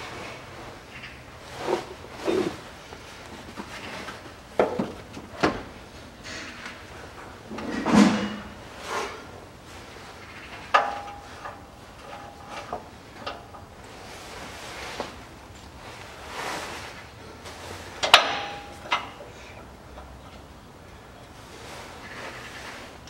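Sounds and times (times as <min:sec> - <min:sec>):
knocks clunks and scrapes: 0:00.0 - 0:20.4.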